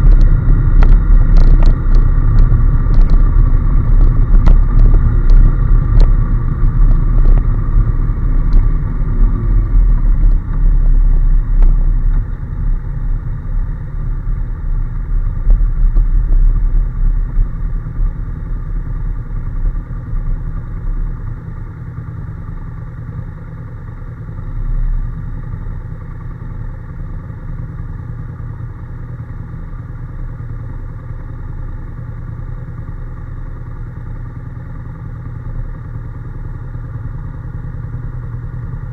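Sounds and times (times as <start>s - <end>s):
motorcycle engine: 0.0s - 38.9s
road rumble: 0.0s - 38.9s.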